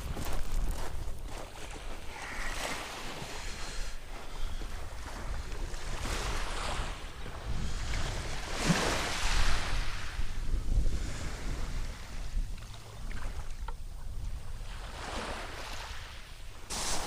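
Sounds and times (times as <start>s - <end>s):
wind rumbling on microphone: 0.0s - 17.0s
small waves washing on shore: 0.7s - 17.0s.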